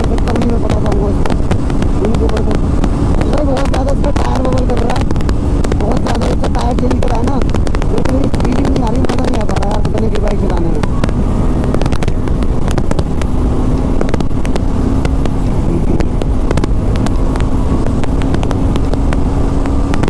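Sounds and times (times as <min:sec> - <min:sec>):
motorcycle engine drone: 0:00.0 - 0:20.0
wind buffeting on microphone: 0:00.0 - 0:20.0.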